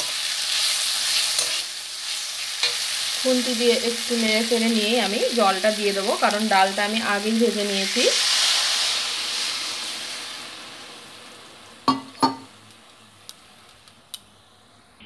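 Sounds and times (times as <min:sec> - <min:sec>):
water sizzling in hot pan: 0:00.0 - 0:14.8.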